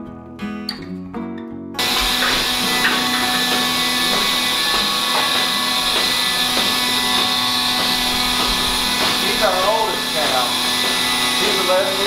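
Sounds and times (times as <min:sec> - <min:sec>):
machinery hum: 0:01.8 - 0:12.0.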